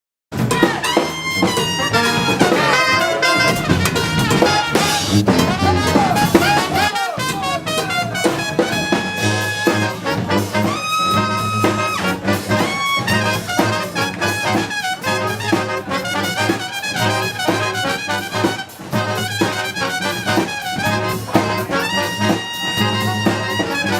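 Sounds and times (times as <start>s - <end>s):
drums: 0.3s - 23.9s
trumpets and trombones: 0.4s - 23.9s
tuba bass line: 0.4s - 23.9s.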